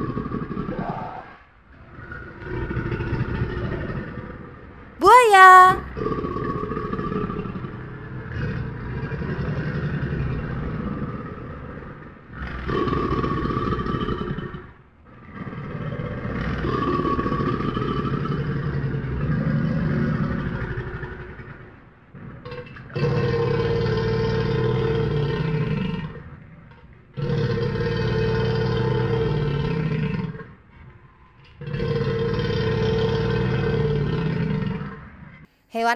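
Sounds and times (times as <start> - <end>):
crocodile growling: 0.0 - 1.1, 1.8 - 4.6, 6.0 - 35.4.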